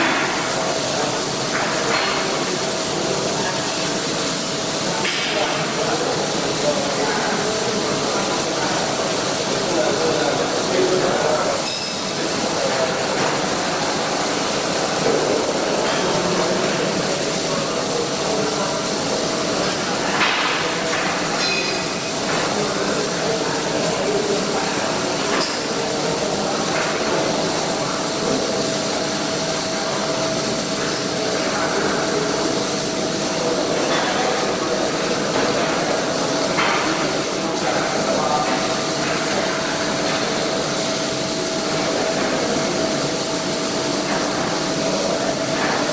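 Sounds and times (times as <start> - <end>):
welding hiss: 0.0 - 45.9.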